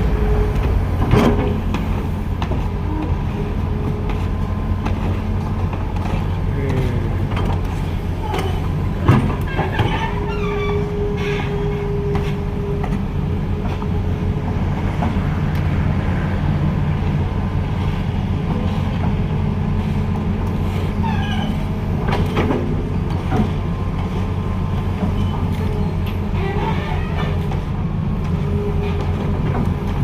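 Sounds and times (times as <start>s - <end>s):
heavy vehicle engine humming: 0.0s - 30.0s.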